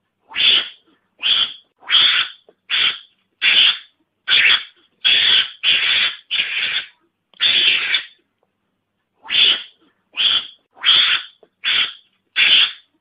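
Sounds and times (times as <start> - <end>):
harsh hissy animal calls: 0.4 - 8.2, 9.3 - 12.9.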